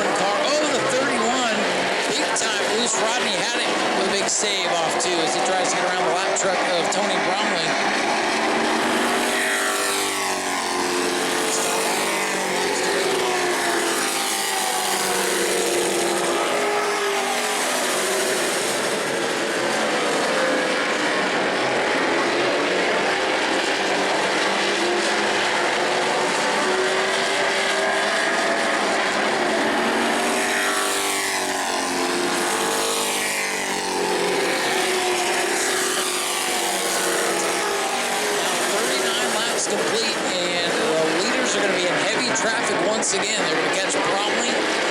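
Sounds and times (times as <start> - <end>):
race truck engines passing: 0.0 - 44.9.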